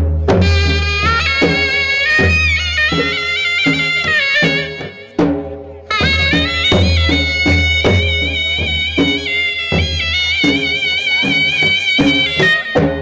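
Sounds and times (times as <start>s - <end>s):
steady drum beat: 0.0s - 13.0s
reedy wavering folk melody: 0.4s - 5.2s, 5.8s - 13.0s.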